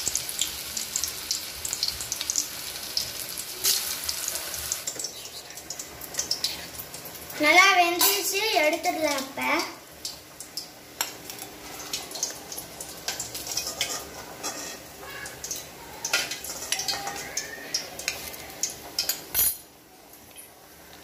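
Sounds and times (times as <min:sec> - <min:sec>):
hot oil crackling: 0:00.0 - 0:21.0.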